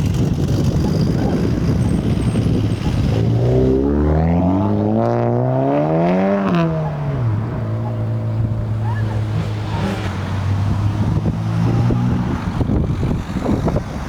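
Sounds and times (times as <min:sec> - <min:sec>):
car engine rumbling and revving: 0:00.0 - 0:14.0.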